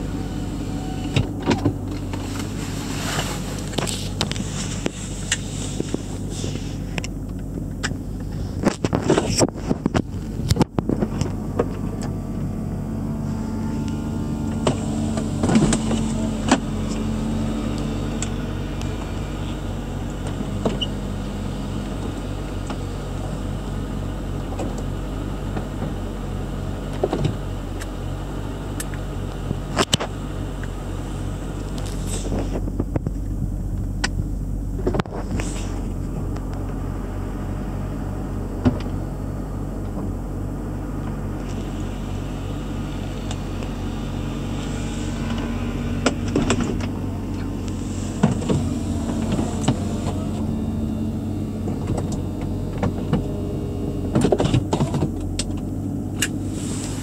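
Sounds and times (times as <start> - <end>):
roof mechanism clunks and clicks: 0.0 - 37.0, 37.6 - 57.0
car engine idling: 0.0 - 57.0.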